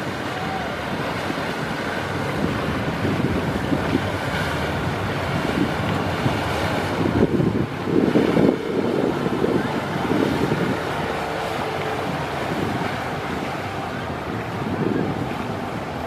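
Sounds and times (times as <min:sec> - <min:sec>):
water jets rushing and spraying: 0:00.0 - 0:16.0
wind buffeting microphone: 0:00.0 - 0:16.0.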